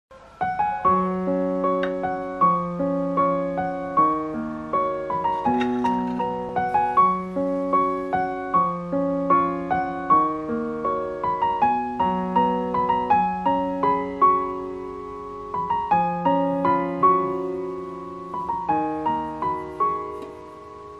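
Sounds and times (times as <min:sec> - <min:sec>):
piano music: 0:00.1 - 0:20.9.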